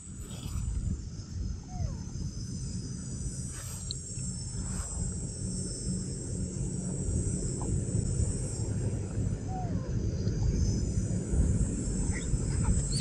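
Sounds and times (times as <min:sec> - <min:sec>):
chorus of forest insects: 0:00.0 - 0:13.0
low rumble: 0:00.0 - 0:13.0.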